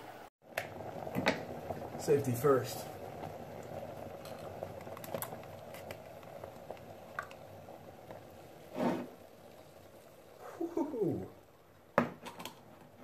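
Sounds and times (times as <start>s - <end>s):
water boiling in pot: 0.1s - 13.0s.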